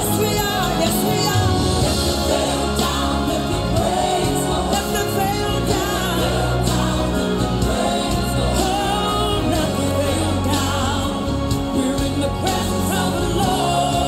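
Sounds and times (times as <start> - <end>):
person singing worship song: 0.0 - 14.0.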